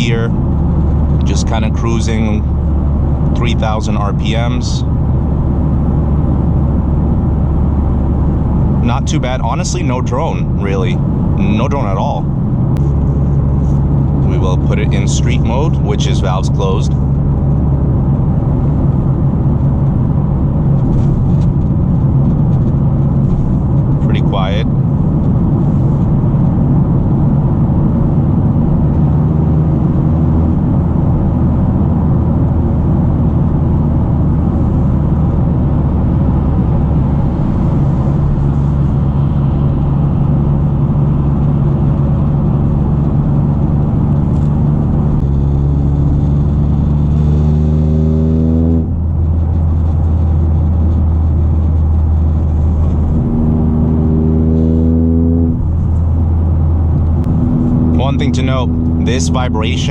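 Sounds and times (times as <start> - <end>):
car engine from cabin: 0.0 - 59.9.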